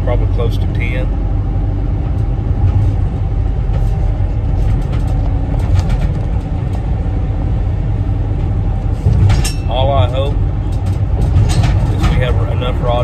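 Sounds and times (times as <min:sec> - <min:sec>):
van engine humming: 0:00.0 - 0:13.0.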